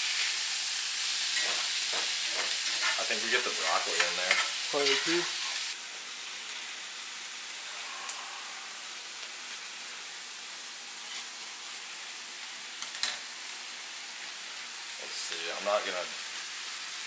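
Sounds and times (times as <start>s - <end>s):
meat and onions sizzling: 0.0s - 17.0s.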